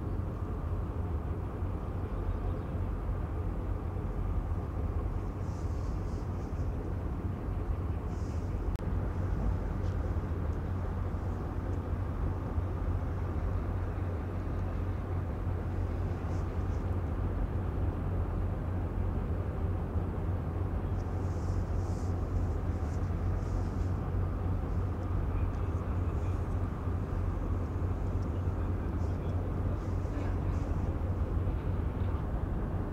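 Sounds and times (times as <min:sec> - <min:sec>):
ship engines rumbling: 0:00.0 - 0:32.9.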